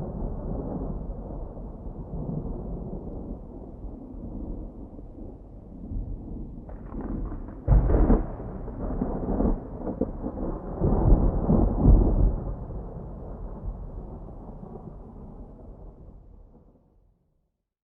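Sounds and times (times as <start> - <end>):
thunder rumbling: 0.0 - 16.4.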